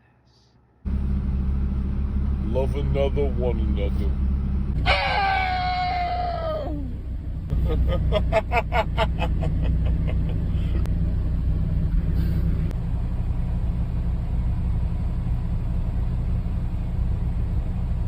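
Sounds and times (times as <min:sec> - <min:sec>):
vehicle engine rumbling: 0:00.8 - 0:18.0.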